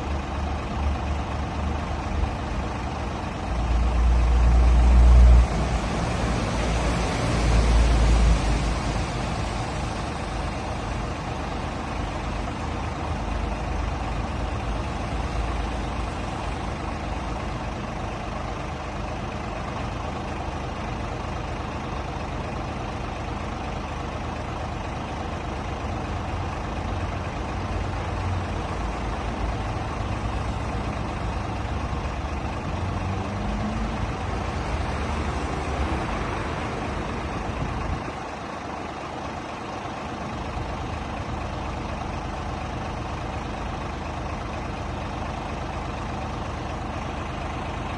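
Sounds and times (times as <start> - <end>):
diesel truck engine rumbling: 0.0 - 47.9.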